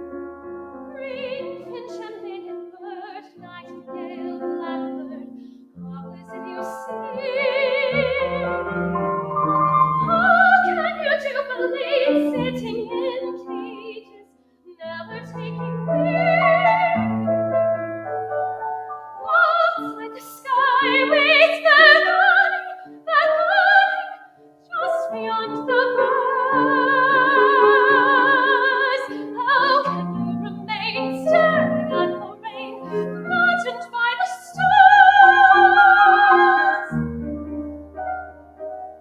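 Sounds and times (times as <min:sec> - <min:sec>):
piano accompaniment: 0:00.0 - 0:39.0
soprano singing with vibrato: 0:00.8 - 0:17.5, 0:19.0 - 0:37.1.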